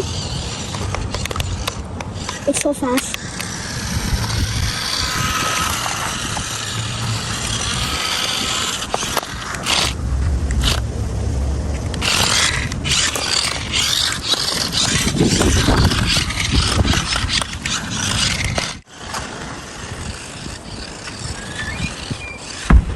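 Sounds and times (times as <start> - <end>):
toy car motors scraping and rattling: 0.0 - 10.9, 11.7 - 22.8.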